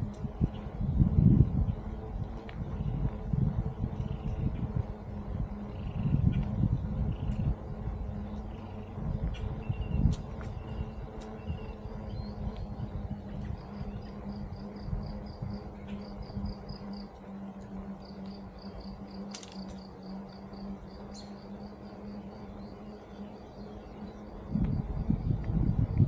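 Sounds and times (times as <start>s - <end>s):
low rumble: 0.0s - 26.0s
steady low hum: 0.0s - 26.0s
insect chirping: 4.0s - 25.4s.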